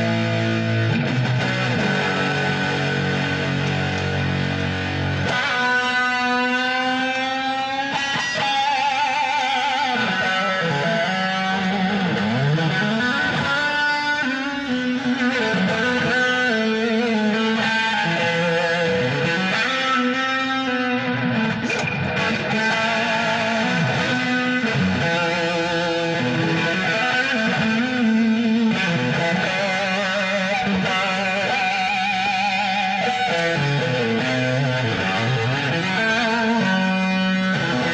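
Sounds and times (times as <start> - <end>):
electric guitar lead notes: 0.0 - 37.9.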